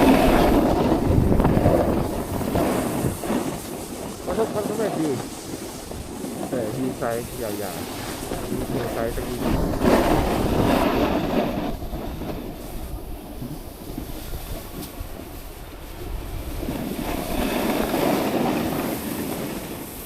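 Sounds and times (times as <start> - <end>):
snowboard scraping over snow: 0.0 - 20.0.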